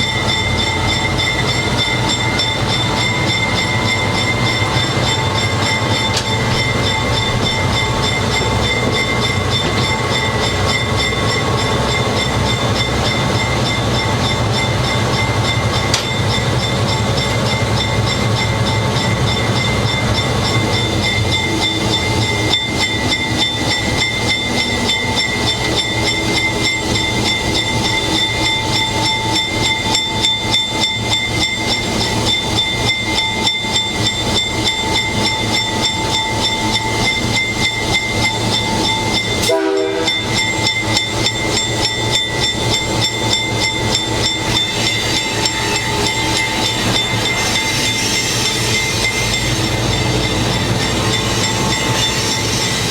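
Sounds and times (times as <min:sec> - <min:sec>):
wheels clicking over rail joints: 0:00.0 - 0:52.9.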